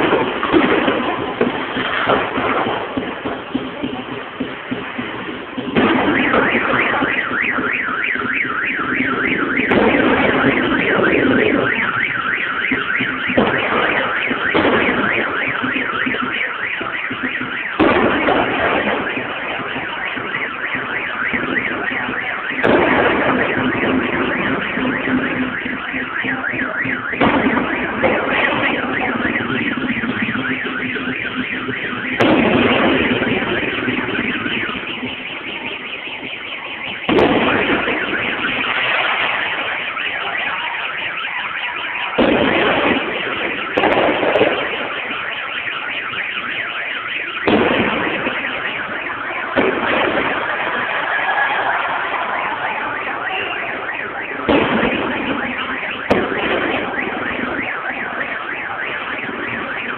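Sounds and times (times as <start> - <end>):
firecrackers crackling: 0.0 - 59.9
loud firework bangs: 0.0 - 59.9.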